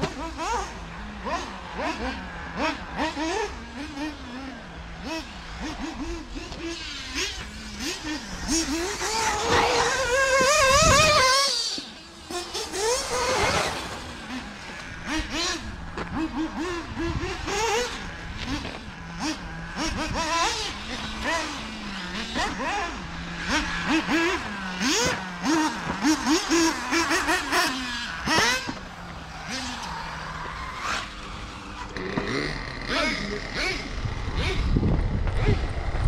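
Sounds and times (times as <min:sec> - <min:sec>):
nitro engine revving: 0:00.0 - 0:36.0.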